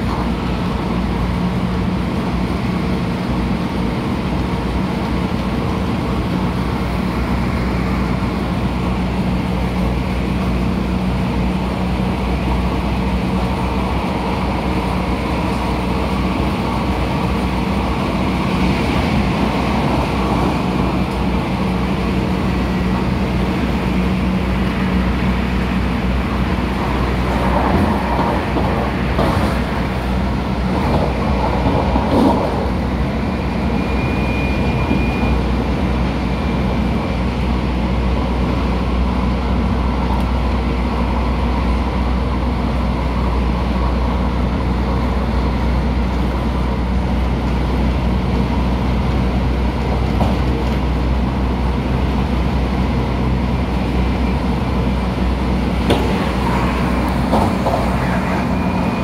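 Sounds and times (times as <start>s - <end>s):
train rumbling along track: 0.0s - 59.0s.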